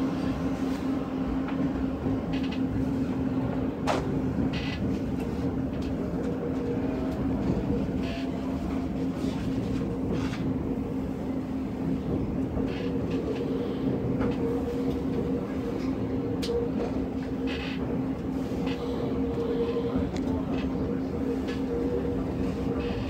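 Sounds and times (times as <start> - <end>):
train interior running hum: 0.0 - 23.0
train rumble: 0.0 - 23.0.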